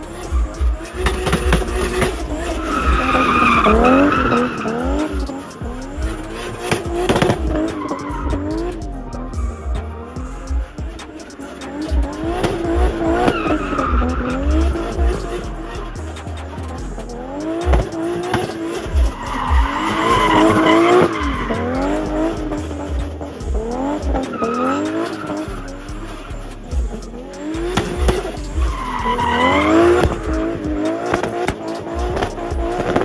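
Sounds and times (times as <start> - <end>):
car engine revving: 0.0 - 33.0
tyres squealing: 0.0 - 33.0.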